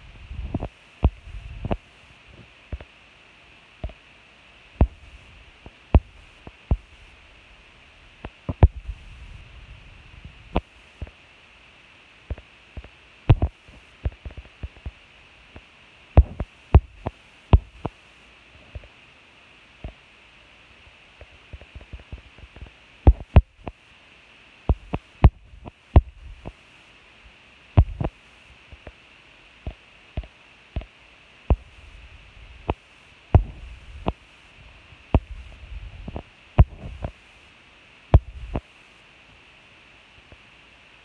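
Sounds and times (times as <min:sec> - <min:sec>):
steady high hiss: 0:00.0 - 0:41.0.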